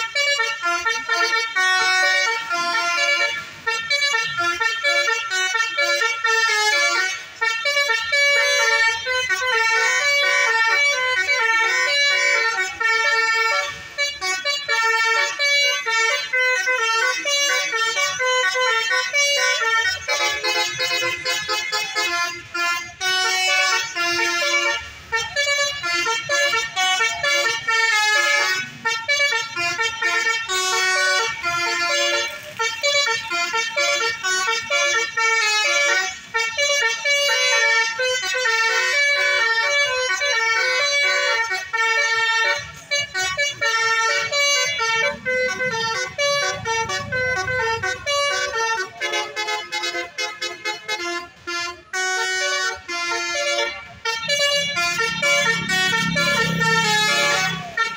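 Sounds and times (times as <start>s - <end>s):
musical bus horn playing tune: 0.0s - 57.9s.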